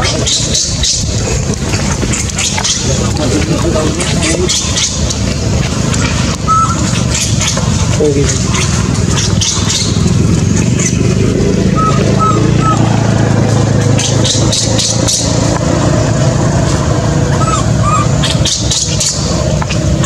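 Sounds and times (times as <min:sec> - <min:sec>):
motor engine humming: 0:00.0 - 0:20.0.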